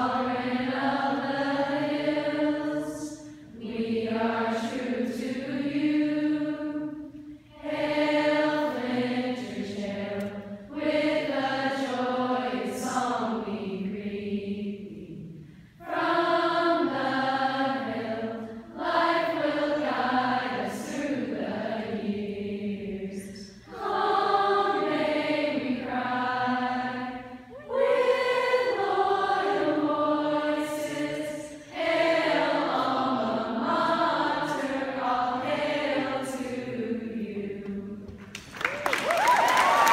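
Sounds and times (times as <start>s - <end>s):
girls singing together: 0.0s - 38.3s.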